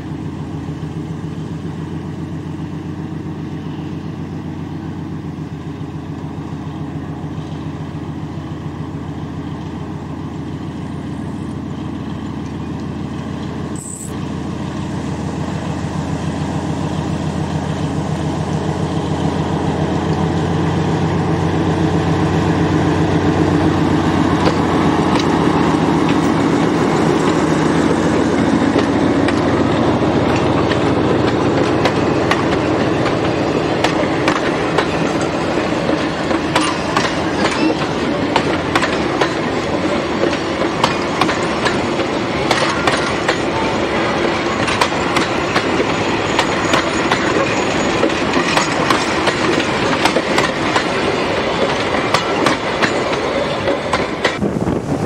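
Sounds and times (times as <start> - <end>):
train wheels clattering on rails: 0.0 - 54.5
diesel locomotive engine running: 0.0 - 55.0.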